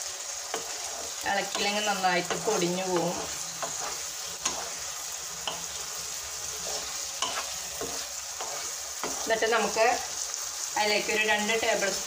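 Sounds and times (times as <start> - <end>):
gravy sizzling in a pan: 0.0 - 12.0
spatula scraping a pan: 0.1 - 10.7.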